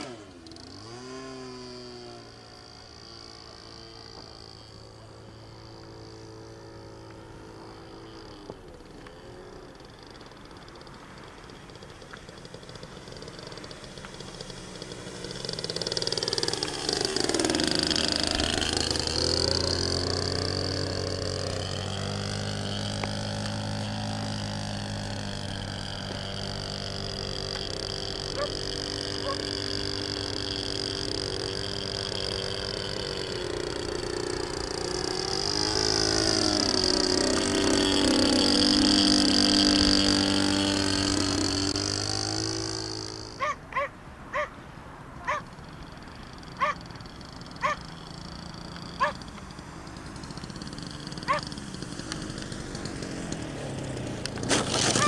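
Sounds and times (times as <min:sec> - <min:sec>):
model airplane motor whining: 0:00.0 - 0:55.0.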